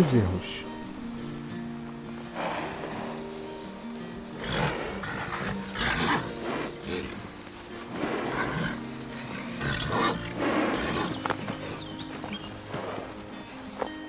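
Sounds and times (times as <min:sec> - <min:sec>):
background music: 0:00.0 - 0:14.0
cattle bellowing: 0:02.2 - 0:14.0.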